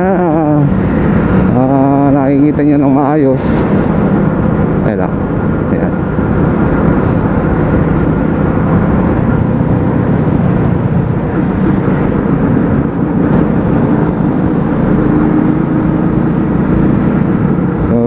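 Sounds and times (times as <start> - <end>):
motorcycle engine drone: 0.0 - 18.0
wind and road noise: 0.0 - 18.0.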